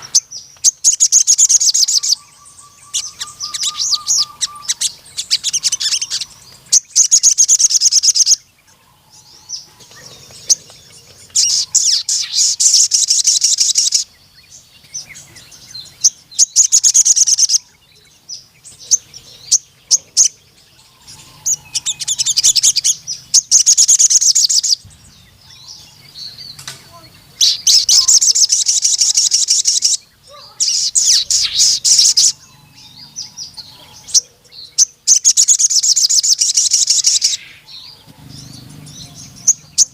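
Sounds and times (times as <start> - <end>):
bird chirps: 0.0 - 39.9
bird metallic trills: 0.0 - 39.9.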